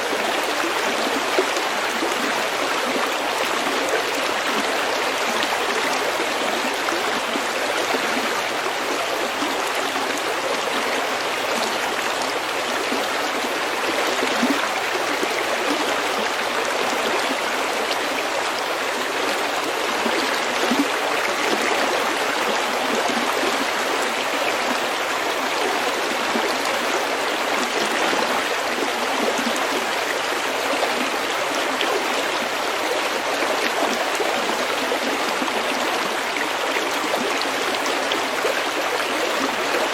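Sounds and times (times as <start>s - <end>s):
stream flowing over pebbles: 0.0s - 39.9s.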